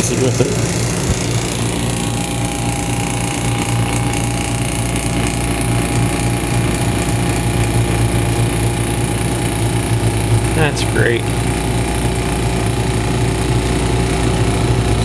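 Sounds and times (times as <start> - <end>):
refrigeration compressor humming: 0.0 - 15.0.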